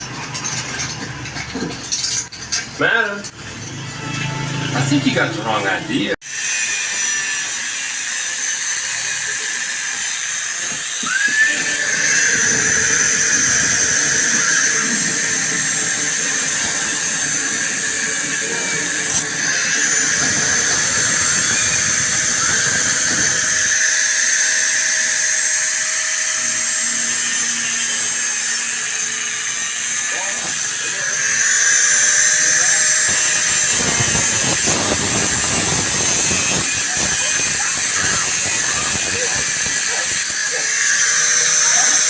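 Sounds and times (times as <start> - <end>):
grinding on metal: 0.0 - 42.0
power tool whining: 3.1 - 42.0.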